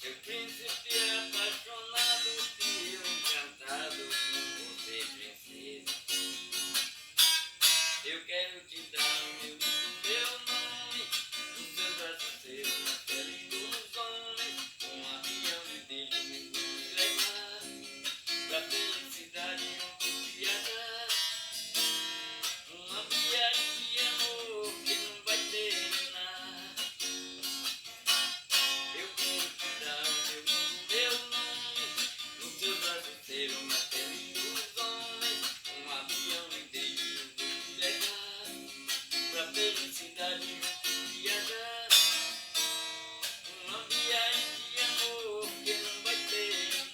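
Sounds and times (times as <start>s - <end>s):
acoustic guitar strumming and picking: 0.0s - 46.9s.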